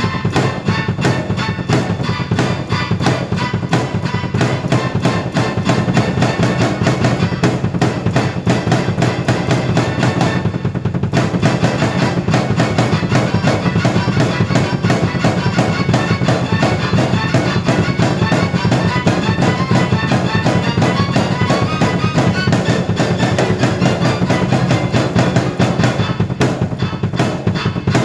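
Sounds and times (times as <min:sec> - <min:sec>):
drum kit beat: 0:00.0 - 0:28.0
keyboard notes: 0:00.0 - 0:28.0.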